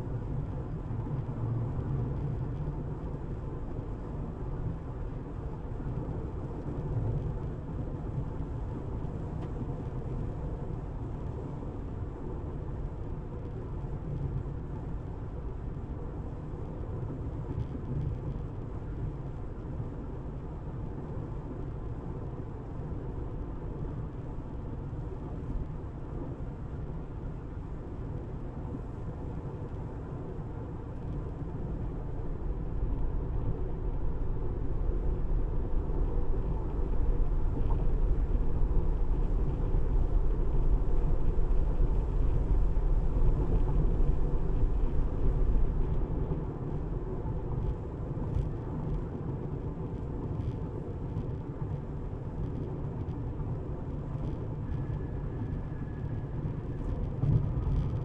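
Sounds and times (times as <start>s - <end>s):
car tyre and road rumble: 0.0s - 58.0s.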